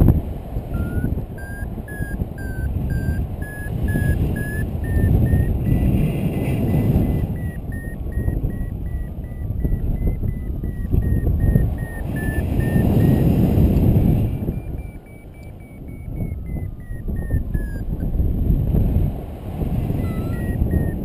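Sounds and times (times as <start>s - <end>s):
wind on microphone: 0.0s - 21.0s
variometer beeping: 0.6s - 18.3s, 19.9s - 21.0s.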